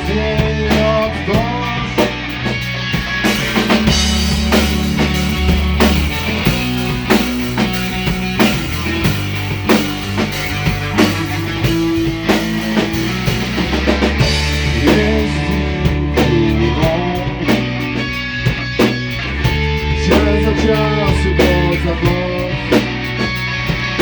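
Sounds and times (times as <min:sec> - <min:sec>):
bass guitar: 0:00.0 - 0:24.0
drum kit beat: 0:00.0 - 0:24.0
guitar playing: 0:00.0 - 0:24.0.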